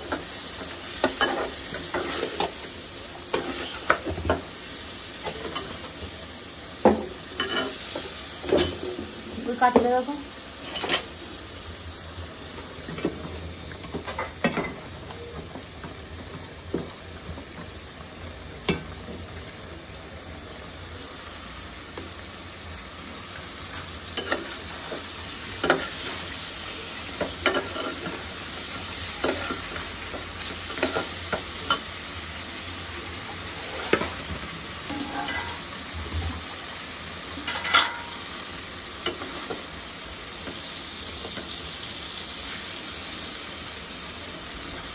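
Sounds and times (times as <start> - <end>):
fish and onion sizzling in a pot: 0.0 - 44.9.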